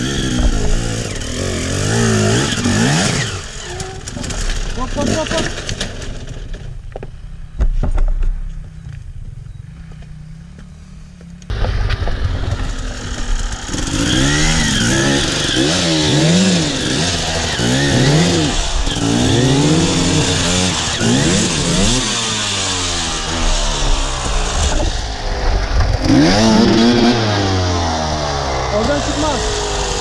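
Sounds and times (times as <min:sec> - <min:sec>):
dirt bike engine revving: 0:00.0 - 0:06.5, 0:11.5 - 0:30.0.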